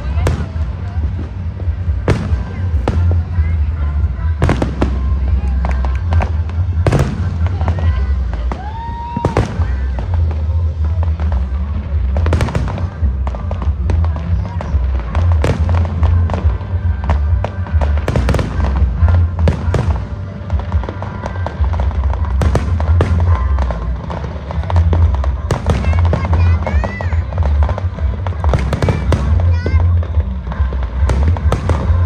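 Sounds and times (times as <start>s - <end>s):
fireworks bangs: 0.0s - 32.0s
loud bass-heavy music: 0.0s - 32.0s.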